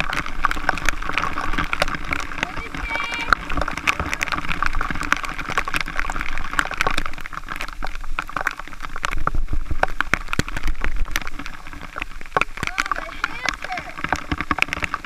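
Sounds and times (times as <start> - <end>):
water dripping and splatting: 0.0 - 15.0
waterfall splashing: 0.0 - 15.0.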